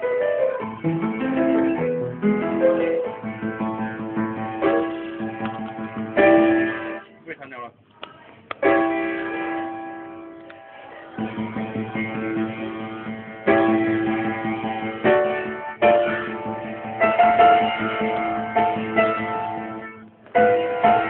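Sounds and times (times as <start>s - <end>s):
piano playing: 0.0s - 7.1s, 8.6s - 21.0s.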